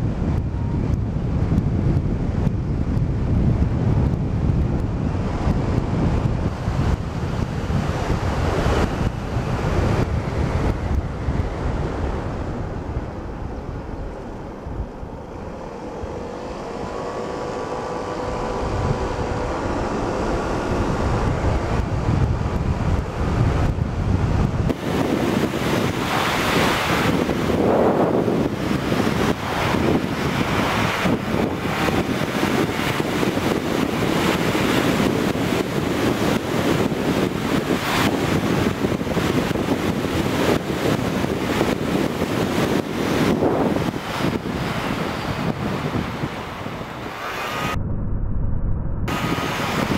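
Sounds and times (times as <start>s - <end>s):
scooter engine and road rumble: 0.0s - 47.8s
wind buffeting microphone: 0.0s - 49.9s.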